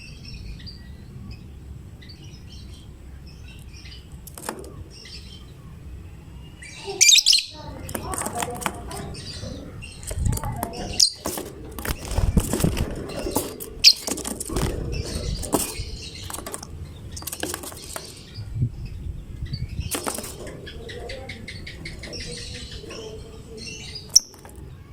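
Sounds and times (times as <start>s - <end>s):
bird chirping and calling: 0.0s - 24.9s.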